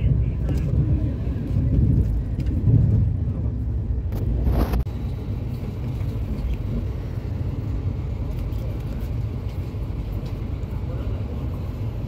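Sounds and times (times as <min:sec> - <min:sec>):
rushing noise: 0:00.0 - 0:12.0
train coach rumbling on track: 0:00.0 - 0:12.0.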